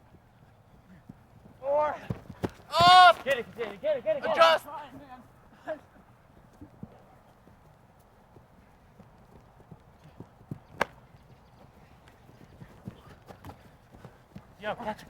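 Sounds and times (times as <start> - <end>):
running footsteps thumping: 0.1 - 15.0.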